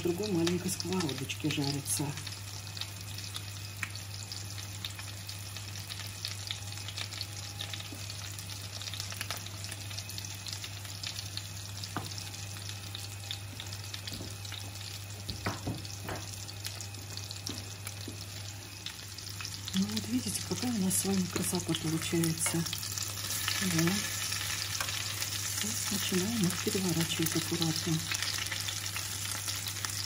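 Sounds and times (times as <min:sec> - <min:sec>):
cutlets frying in oil: 0:00.0 - 0:30.0.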